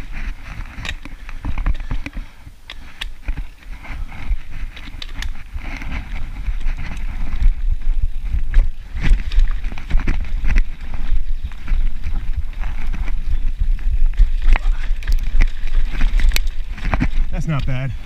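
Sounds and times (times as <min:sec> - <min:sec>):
bike rattling: 0:00.0 - 0:18.0
bike rolling on wooden boardwalk: 0:00.0 - 0:18.0
bike tyres on dirt trail: 0:00.0 - 0:18.0
wind buffeting microphone: 0:00.0 - 0:18.0.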